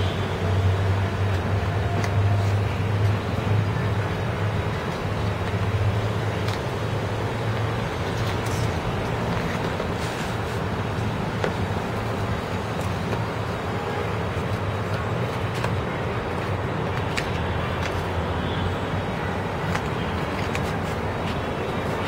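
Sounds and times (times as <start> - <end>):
background traffic rumble: 0.0 - 22.0.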